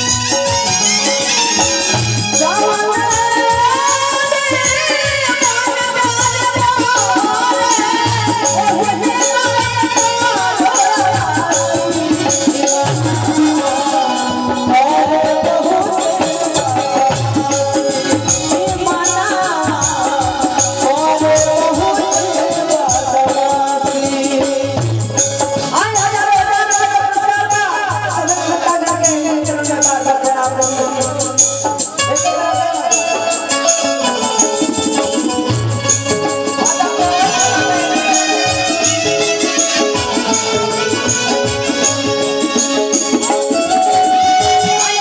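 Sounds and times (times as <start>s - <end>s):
band playing: 0.0s - 27.1s, 30.3s - 45.0s
steady drum beat: 0.0s - 45.0s
woman singing into a microphone: 0.0s - 45.0s.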